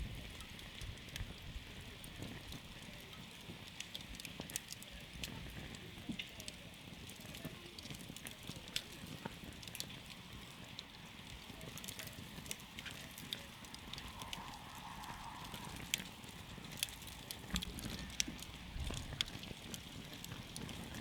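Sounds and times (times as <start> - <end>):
campfire pops and snaps: 0.0 - 21.0
low rumble of burning fire: 0.0 - 21.0.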